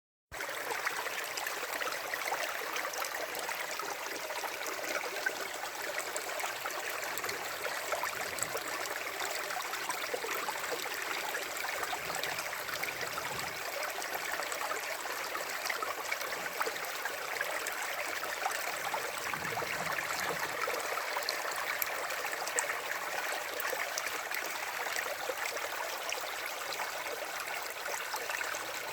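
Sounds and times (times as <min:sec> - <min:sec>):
stream flowing over stones: 0:00.3 - 0:28.9.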